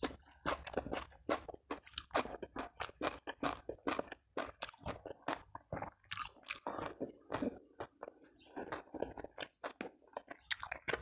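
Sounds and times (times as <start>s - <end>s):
chewing crunchy food: 0.0s - 11.0s.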